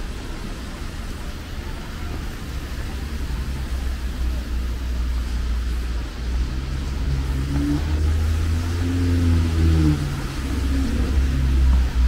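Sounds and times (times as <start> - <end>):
passing vehicles rumble: 0.0 - 12.0
traffic hiss: 0.0 - 12.0.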